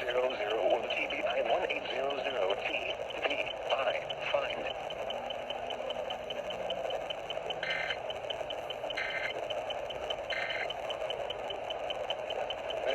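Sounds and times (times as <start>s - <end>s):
faint ticking: 0.0s - 12.9s
radio static: 0.0s - 12.9s
short data bursts: 0.0s - 12.9s.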